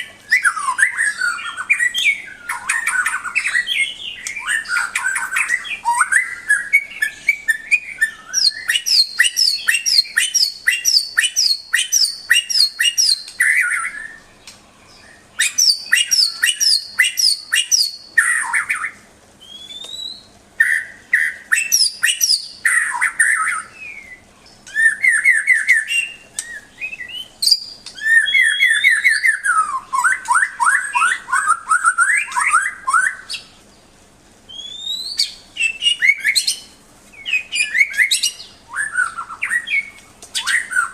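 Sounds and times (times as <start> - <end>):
songbird singing trills and whistles: 0.0 - 33.9, 34.5 - 40.9.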